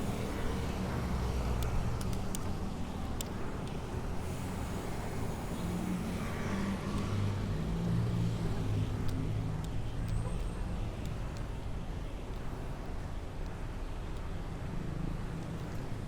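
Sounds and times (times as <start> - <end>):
road noise rumble: 0.0 - 16.0.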